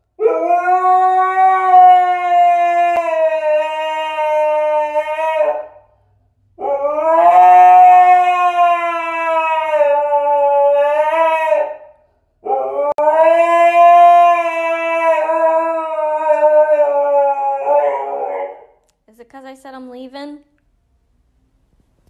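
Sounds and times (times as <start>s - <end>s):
dog howling: 0.2s - 5.8s, 6.6s - 18.8s.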